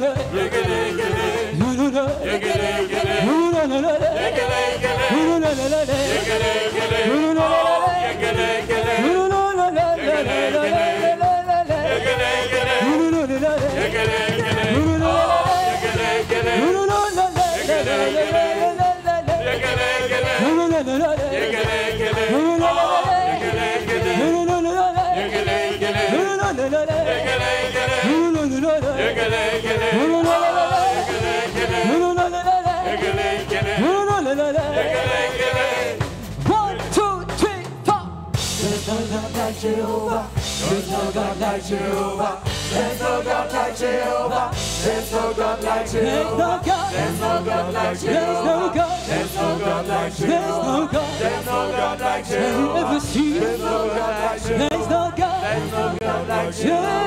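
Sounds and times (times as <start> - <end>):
group singing gospel: 0.0 - 36.9, 38.4 - 57.0
live band playing: 0.0 - 57.0.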